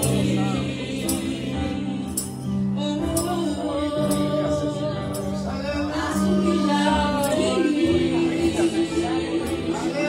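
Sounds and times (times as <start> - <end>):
person singing a slow melody: 0.0 - 10.0.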